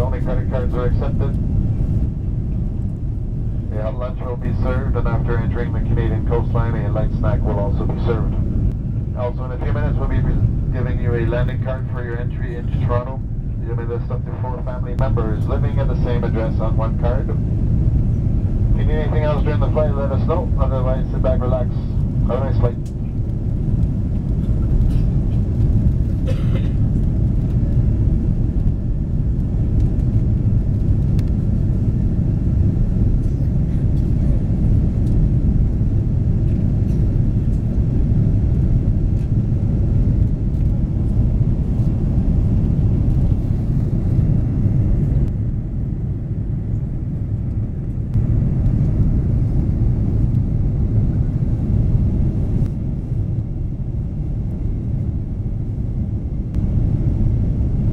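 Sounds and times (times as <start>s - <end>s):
aircraft cabin engine rumble: 0.0s - 57.9s.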